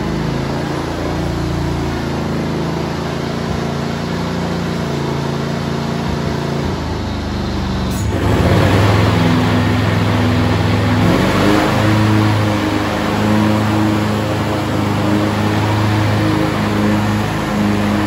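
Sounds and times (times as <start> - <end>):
garden tractor engine running: 0.0 - 18.0.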